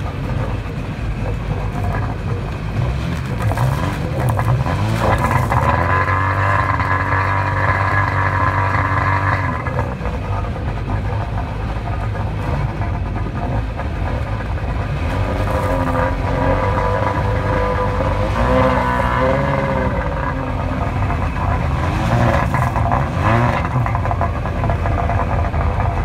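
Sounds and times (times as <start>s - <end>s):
jet boat engines idling: 0.0s - 26.0s.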